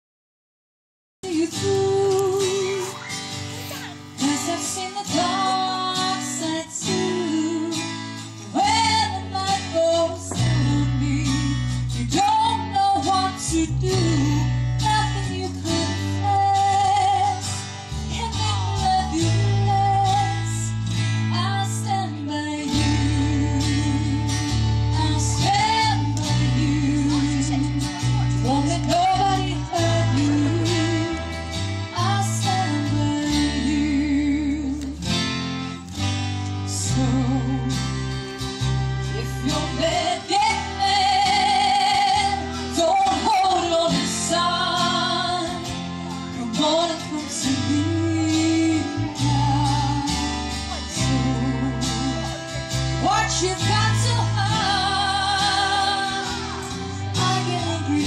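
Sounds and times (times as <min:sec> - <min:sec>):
woman singing into microphone: 0:01.2 - 0:03.2, 0:04.0 - 0:35.1, 0:36.6 - 0:38.2, 0:39.0 - 0:58.0
guitar-led backing music: 0:01.2 - 0:58.0.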